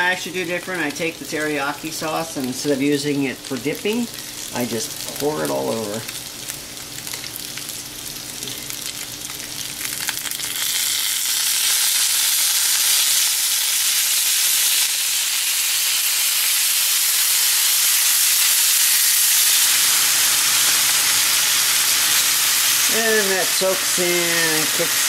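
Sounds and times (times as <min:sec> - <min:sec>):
sauce sizzling in a hot pan: 0:00.0 - 0:25.0.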